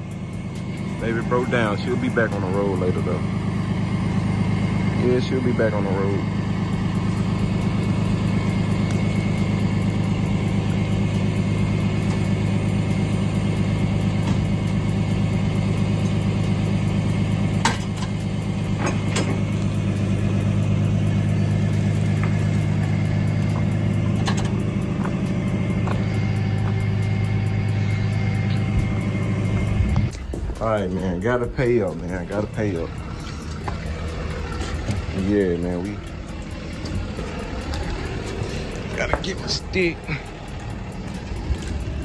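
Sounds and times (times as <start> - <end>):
truck engine idling: 0.0 - 42.0.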